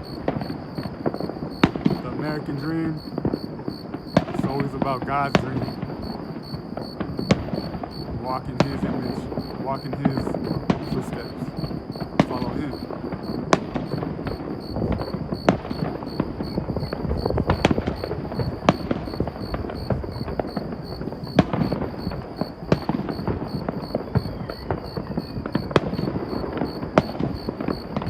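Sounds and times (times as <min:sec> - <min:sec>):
distant fireworks crackling: 0:00.0 - 0:28.0
loud firework bangs: 0:00.0 - 0:28.0.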